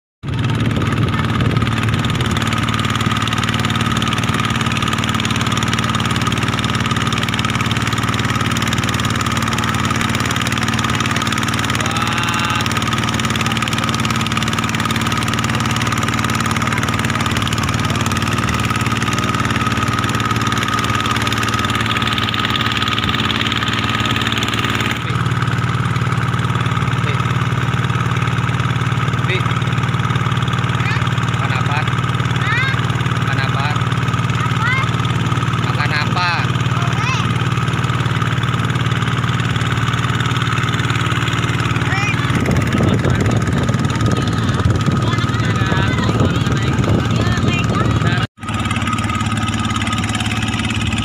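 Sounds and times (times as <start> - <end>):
boat engine droning: 0.2 - 51.0.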